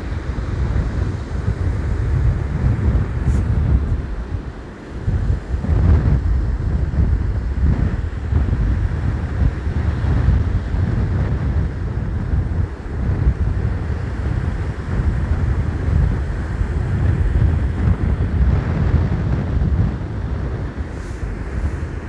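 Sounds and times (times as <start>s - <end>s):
stormy sea surf: 0.0s - 22.0s
wind buffeting microphone: 0.0s - 22.0s.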